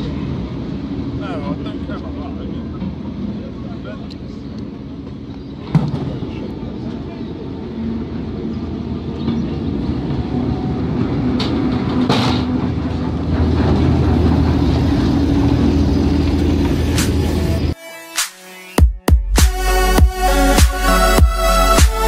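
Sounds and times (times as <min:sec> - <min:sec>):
diesel locomotive engine running: 0:00.0 - 0:17.8.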